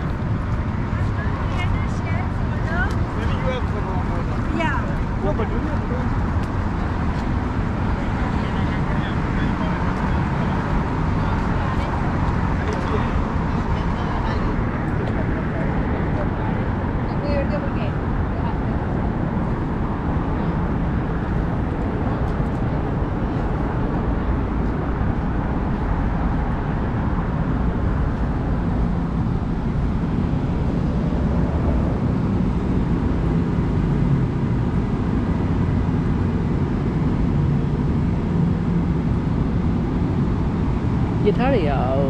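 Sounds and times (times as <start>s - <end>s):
moving vehicle rushing noise: 0.0s - 42.0s.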